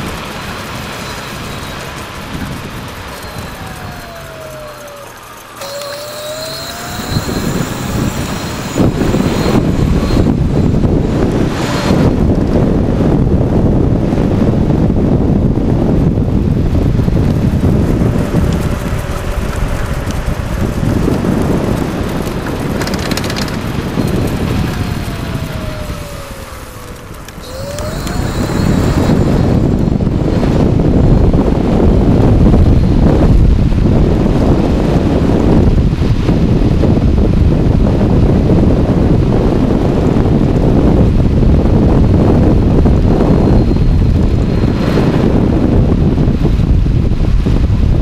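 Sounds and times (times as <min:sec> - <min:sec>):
electric motor whine: 0:00.0 - 0:47.3
wind rushing over microphone: 0:00.0 - 0:48.0.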